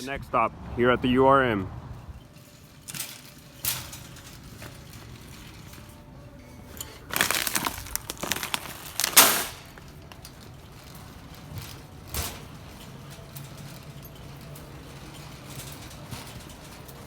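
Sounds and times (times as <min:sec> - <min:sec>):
crinkling crunching rustles: 0:02.1 - 0:17.0.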